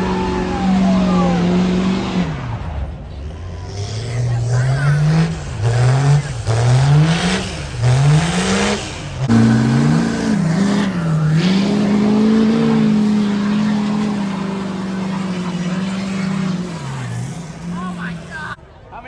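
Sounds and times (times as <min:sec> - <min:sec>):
truck engine revving: 0:00.0 - 0:18.6.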